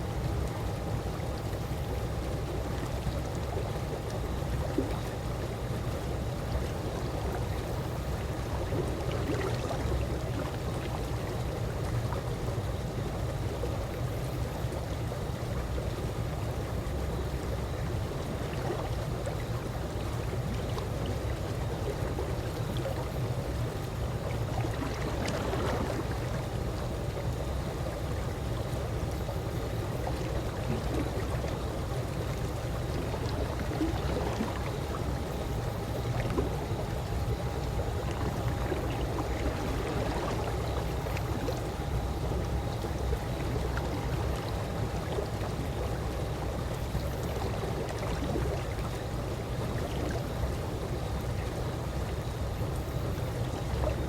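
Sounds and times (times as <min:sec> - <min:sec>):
pool water lapping and trickling: 0:00.0 - 0:54.0
soft water splashes: 0:00.0 - 0:54.0.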